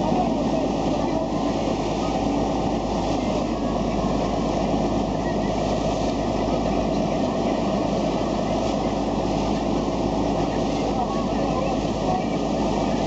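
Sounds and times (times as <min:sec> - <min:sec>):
boat engine droning: 0:00.0 - 0:13.0
boat rushing through water: 0:00.0 - 0:13.0.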